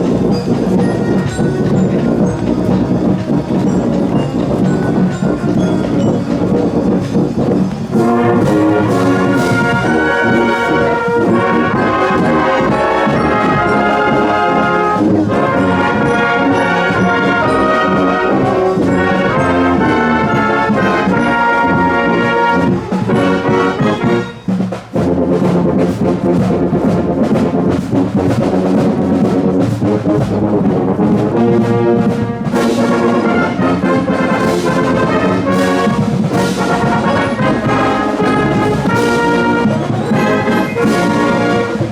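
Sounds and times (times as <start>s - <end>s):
marching band playing brass music: 0.0s - 41.9s.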